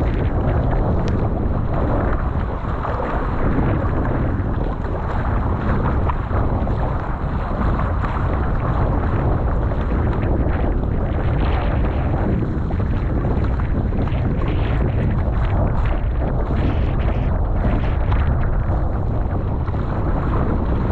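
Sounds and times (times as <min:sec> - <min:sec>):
water rushing past boat: 0:00.0 - 0:20.9
wind buffeting microphone: 0:00.0 - 0:20.9.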